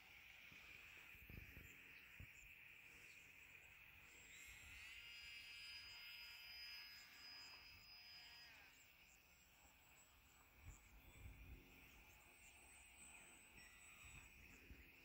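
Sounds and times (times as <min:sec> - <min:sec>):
electric motor and propeller whine: 0:00.0 - 0:15.0
faint insect hum: 0:00.0 - 0:15.0.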